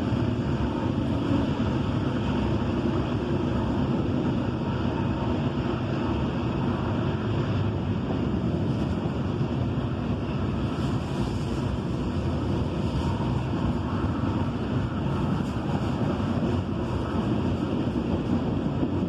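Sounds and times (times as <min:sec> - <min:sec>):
freight cars rolling on rails: 0:00.0 - 0:19.0.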